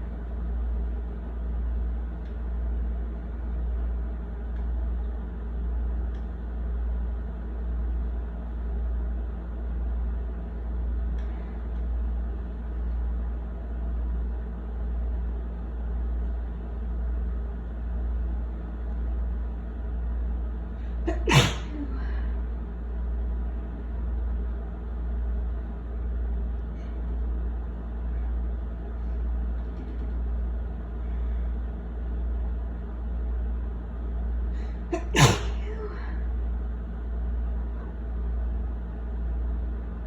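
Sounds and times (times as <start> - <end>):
pulsing low hum: 0.0 - 40.0.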